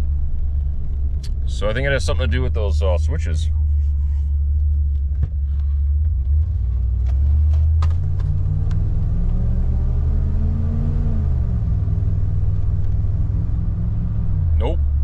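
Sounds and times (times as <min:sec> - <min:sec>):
van engine and road rumble: 0:00.0 - 0:15.0.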